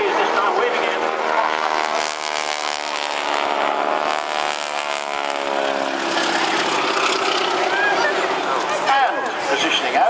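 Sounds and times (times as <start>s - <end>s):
biplane engine drone: 0.0s - 10.0s.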